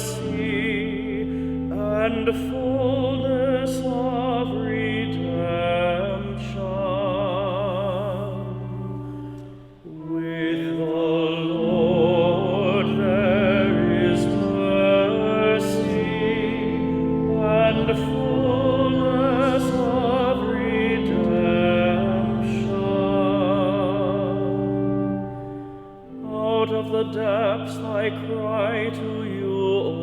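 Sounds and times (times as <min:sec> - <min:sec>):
person singing with vibrato: 0:00.0 - 0:30.0
sustained organ chords: 0:00.0 - 0:30.0.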